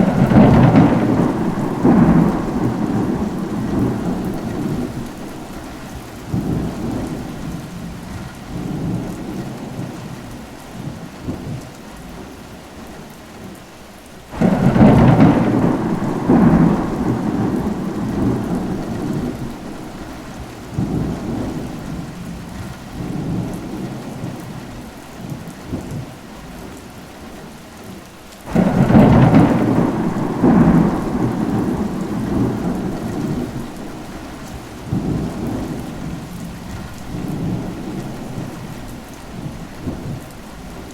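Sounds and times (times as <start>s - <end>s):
thunder rumbling: 0.0s - 10.2s, 14.3s - 26.1s, 28.5s - 40.9s
steady rain: 0.0s - 40.9s.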